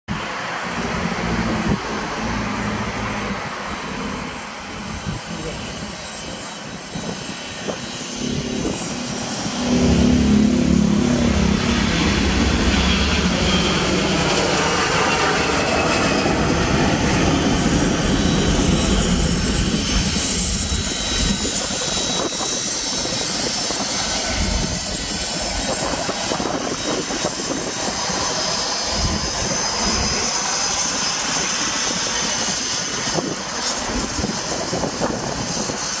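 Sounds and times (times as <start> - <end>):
jet engines running: 0.1 - 36.0.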